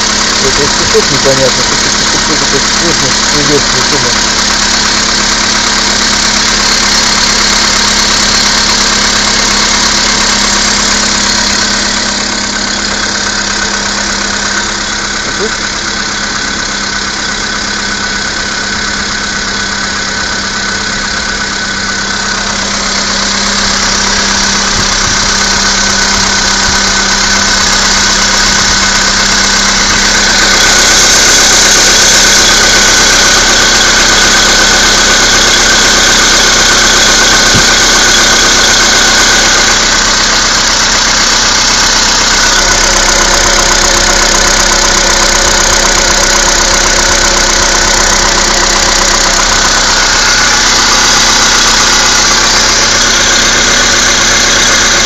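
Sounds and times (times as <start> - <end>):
car engine idling: 0.0 - 55.0
engine knocking: 0.0 - 55.0.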